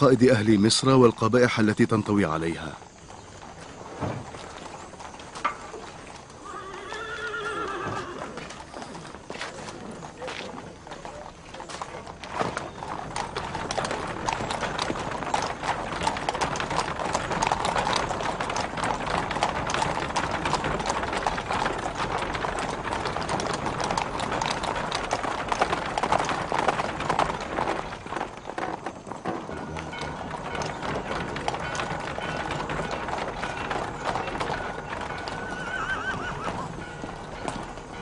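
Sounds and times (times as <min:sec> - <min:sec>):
horses' hooves clattering: 0:00.0 - 0:38.0.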